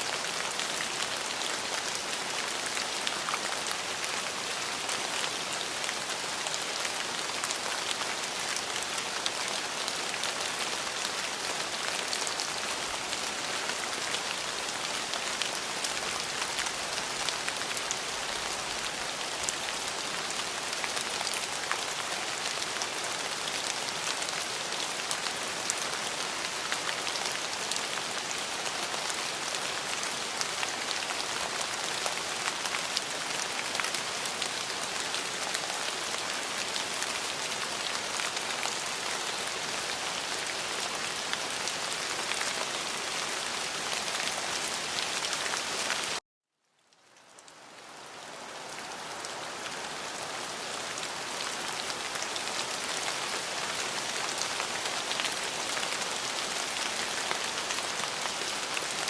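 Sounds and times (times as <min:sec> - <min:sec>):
heavy rain: 0:00.0 - 0:46.2, 0:47.0 - 0:59.0.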